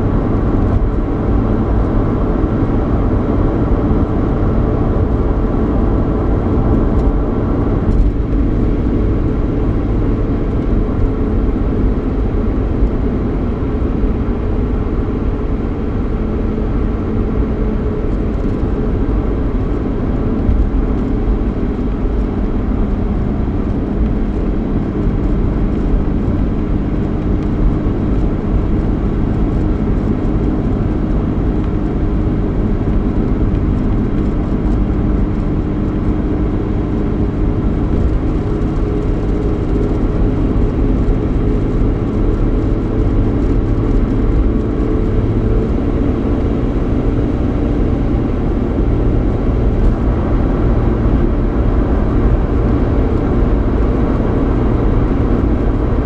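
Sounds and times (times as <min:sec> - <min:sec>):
car engine hum: 0:00.0 - 0:56.0
road noise inside car: 0:00.0 - 0:56.0.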